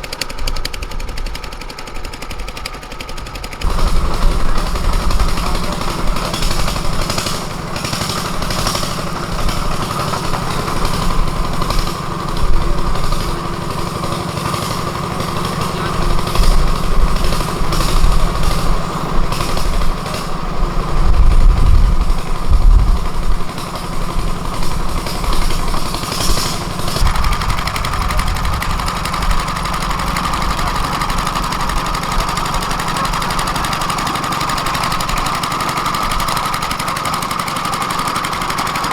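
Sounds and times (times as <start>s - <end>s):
engine running with rattling knock: 0.0s - 38.9s.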